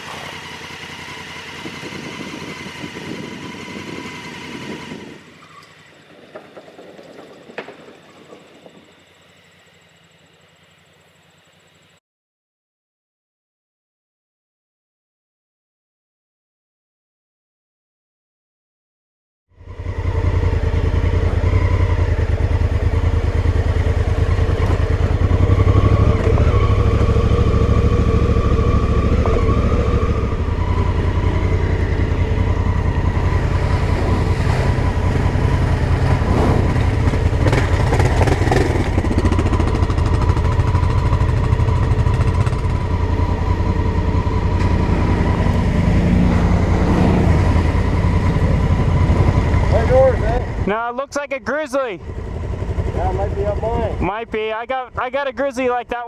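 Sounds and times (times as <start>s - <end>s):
motorcycle engine running: 0.0s - 12.0s, 19.6s - 51.0s, 52.0s - 56.0s.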